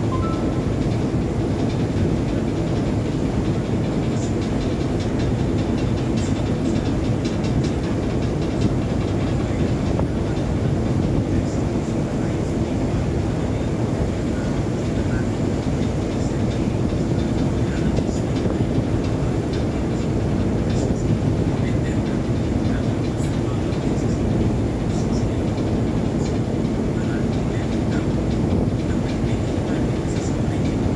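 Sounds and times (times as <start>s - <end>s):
ship engine drone: 0.0s - 30.9s
water rushing along hull: 0.0s - 30.9s.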